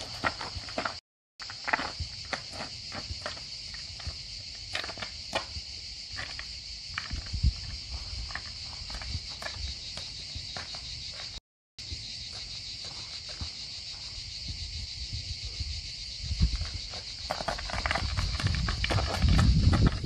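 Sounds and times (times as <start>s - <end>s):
high-pitched insect drone: 1.4s - 19.6s.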